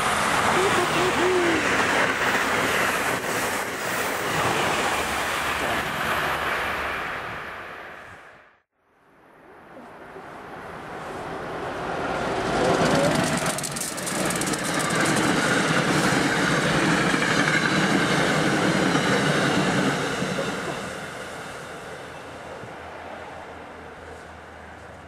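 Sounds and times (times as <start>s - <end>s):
electric train passing: 0.0s - 8.7s, 10.3s - 25.0s
high steady train whine: 0.0s - 25.0s.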